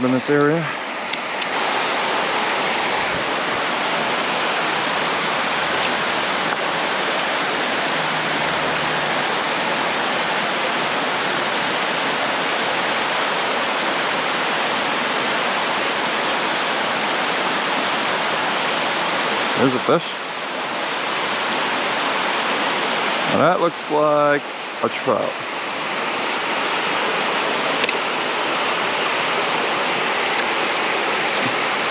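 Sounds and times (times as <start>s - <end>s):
creek water running: 0.0s - 31.9s.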